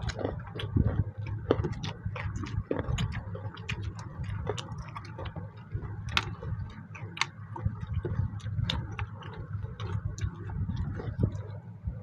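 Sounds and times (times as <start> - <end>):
chewing and mouth smacking: 0.0 - 11.7.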